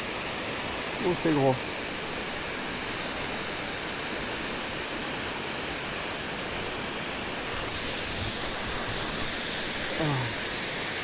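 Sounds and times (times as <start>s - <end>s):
water rushing over a weir: 0.0s - 11.0s.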